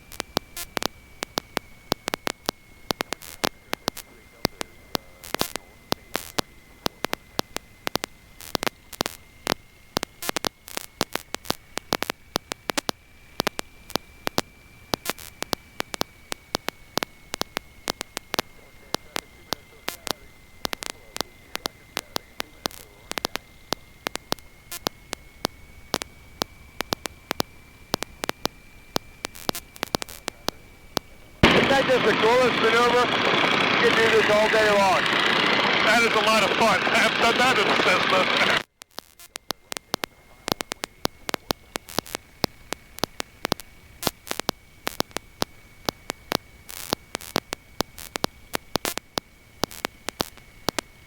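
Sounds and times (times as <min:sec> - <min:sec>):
high-pitched whine: 0:00.0 - 0:51.0
intercom crackling clicks: 0:00.0 - 0:51.0.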